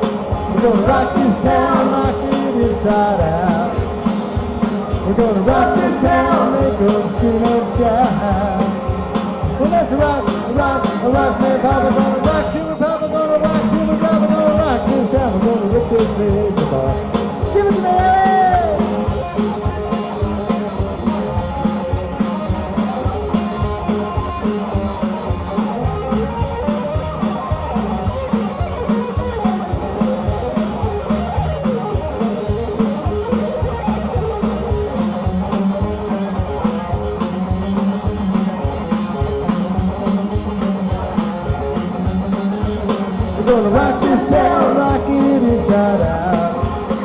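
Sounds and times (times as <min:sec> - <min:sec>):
bass: 0:00.0 - 0:47.0
driving drum beat: 0:00.0 - 0:47.0
electric guitar lead: 0:00.0 - 0:47.0.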